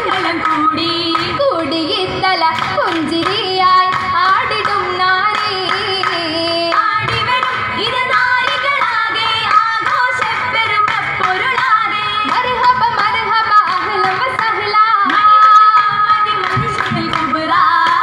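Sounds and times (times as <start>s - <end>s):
hand claps: 0.0s - 18.0s
women singing: 0.0s - 18.0s.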